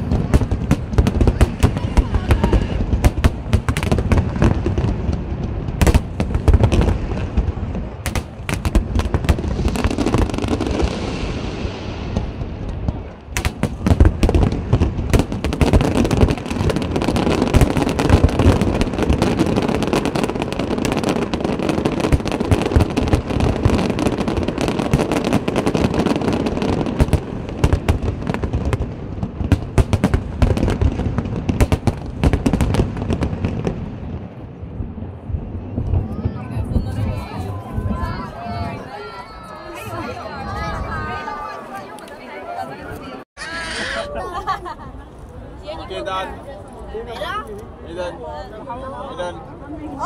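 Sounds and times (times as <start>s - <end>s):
fireworks bangs and crackles: 0.0s - 42.2s.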